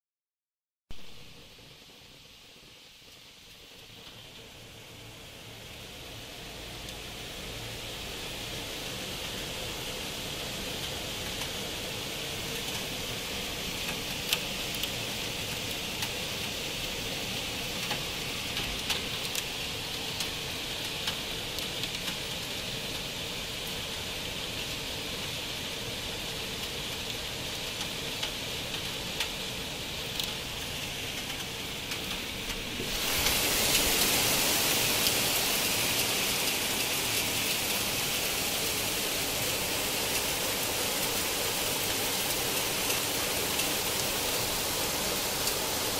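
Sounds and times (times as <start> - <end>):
rain and hail falling: 0.9 - 45.9
hailstones ticking: 8.9 - 45.9.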